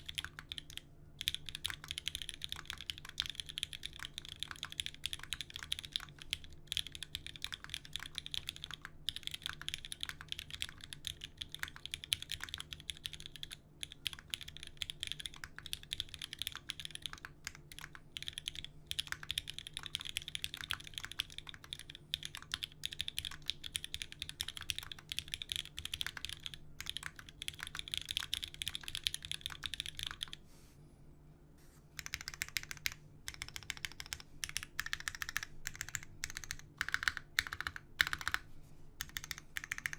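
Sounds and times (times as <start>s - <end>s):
fast mechanical keyboard typing: 0.0s - 30.4s, 32.0s - 39.9s.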